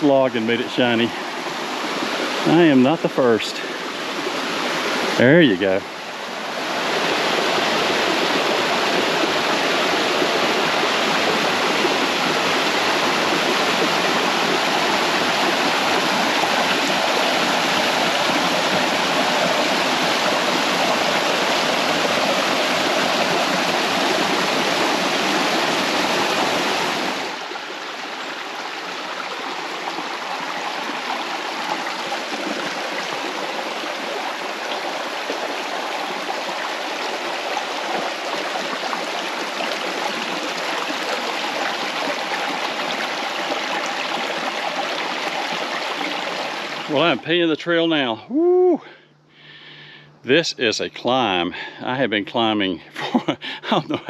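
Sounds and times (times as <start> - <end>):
creek rushing over rocks: 0.0 - 47.5.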